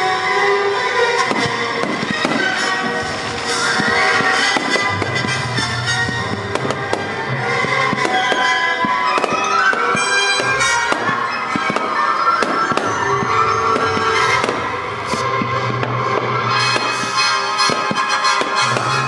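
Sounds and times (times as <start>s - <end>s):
loud music: 0.0s - 19.0s
fireworks popping and crackling: 1.1s - 19.0s.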